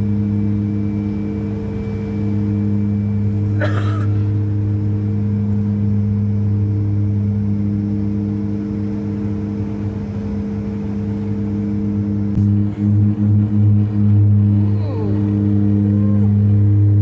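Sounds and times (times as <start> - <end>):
propeller engine droning: 0.0 - 17.0.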